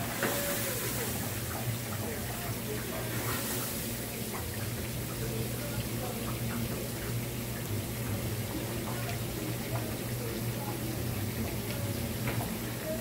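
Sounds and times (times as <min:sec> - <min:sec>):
vegetables sizzling in frying pans: 0:00.0 - 0:13.0.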